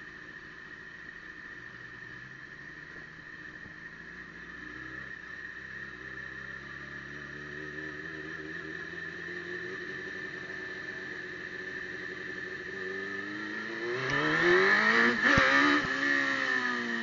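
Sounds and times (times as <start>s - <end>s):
motorcycle engine: 0.0s - 17.0s
steady high whine: 0.0s - 17.0s.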